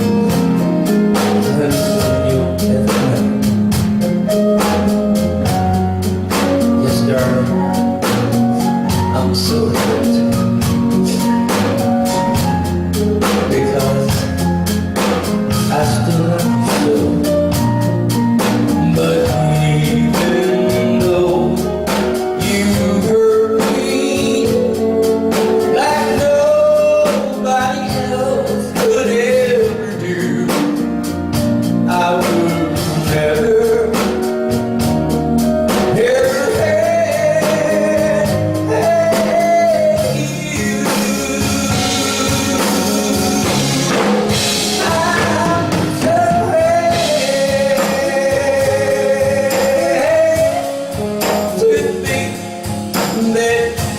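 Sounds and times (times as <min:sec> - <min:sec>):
band accompaniment: 0:00.0 - 0:53.9
man singing: 0:00.0 - 0:53.9
steady drum beat: 0:00.0 - 0:53.9.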